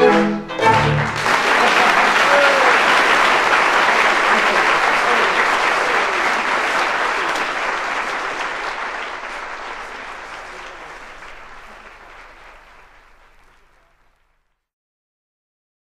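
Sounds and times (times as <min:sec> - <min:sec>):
audience applause: 0:00.5 - 0:14.6.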